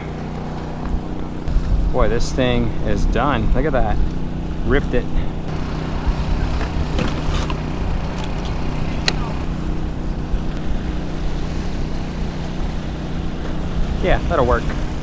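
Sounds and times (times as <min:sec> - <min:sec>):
portable generator humming: 0:00.0 - 0:15.0.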